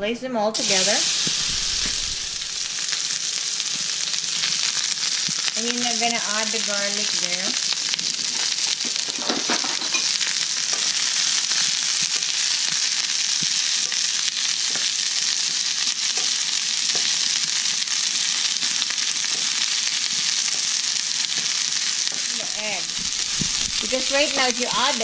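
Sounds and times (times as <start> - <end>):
vegetables sizzling in frying pan: 0.6 - 25.0.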